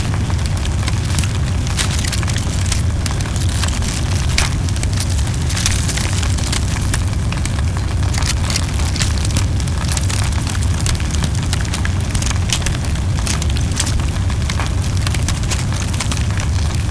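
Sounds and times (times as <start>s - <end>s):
burning wood crackling: 0.0s - 16.9s
low rumble of flames: 0.0s - 16.9s.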